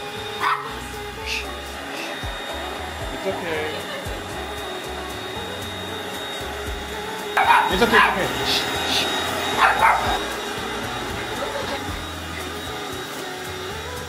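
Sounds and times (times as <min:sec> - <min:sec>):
electric air pump running: 0:00.0 - 0:14.0.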